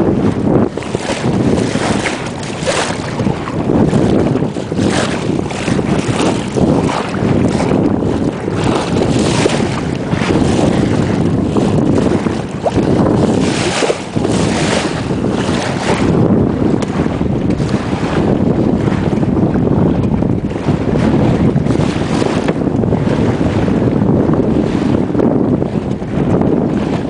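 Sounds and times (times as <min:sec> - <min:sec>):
water rushing along hull: 0:00.0 - 0:27.0
waves splashing against hull: 0:00.0 - 0:27.0
wind buffeting microphone: 0:00.0 - 0:27.0.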